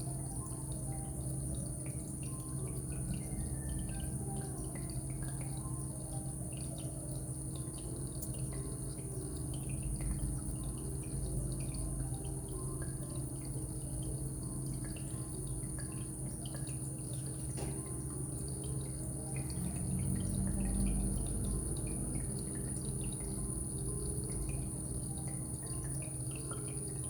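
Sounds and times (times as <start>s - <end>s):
steady low hum: 0.0s - 27.0s
water drops plinking: 0.0s - 27.0s.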